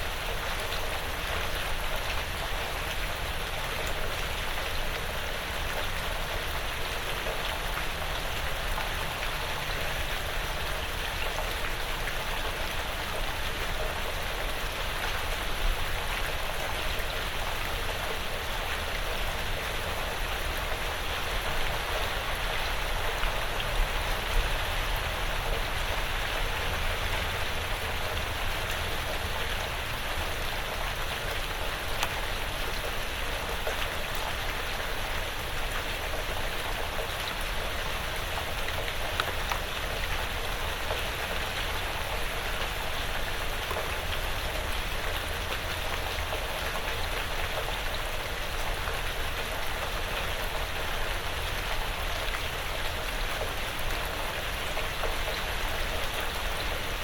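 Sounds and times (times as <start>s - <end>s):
light rain on a roof: 0.0s - 57.0s.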